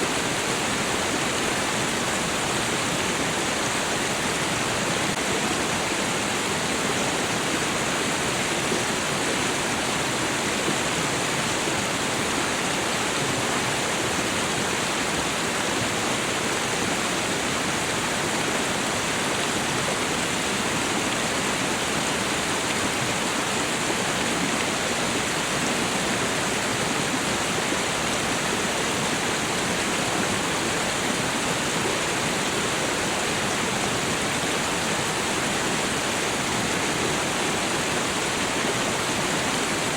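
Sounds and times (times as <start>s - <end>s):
small waterfall rushing: 0.0s - 39.9s
stream rushing: 0.0s - 39.9s.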